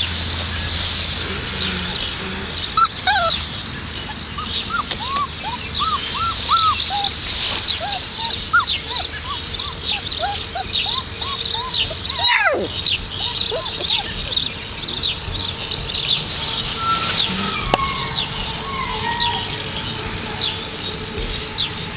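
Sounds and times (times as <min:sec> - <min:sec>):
puppies whimpering and yipping: 0:01.5 - 0:21.8.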